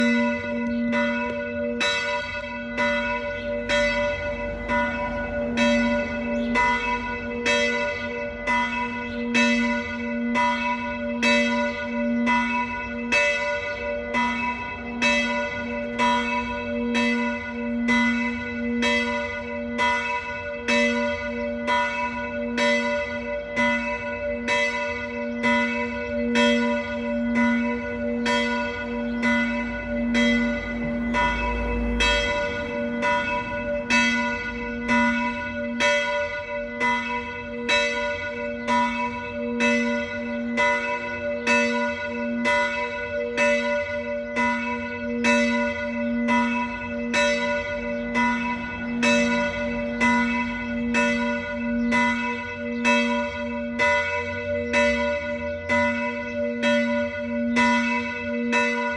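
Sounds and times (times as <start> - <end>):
church bells pealing: 0.0 - 58.9.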